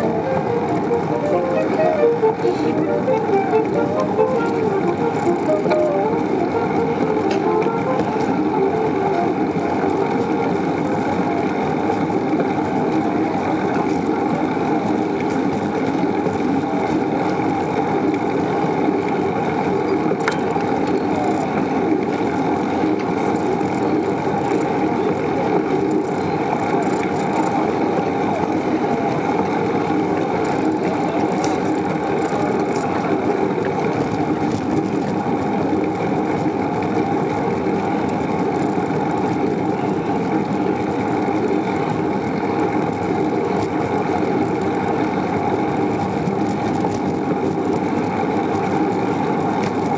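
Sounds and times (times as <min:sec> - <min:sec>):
wind and bicycle road noise: 0:00.0 - 0:49.9.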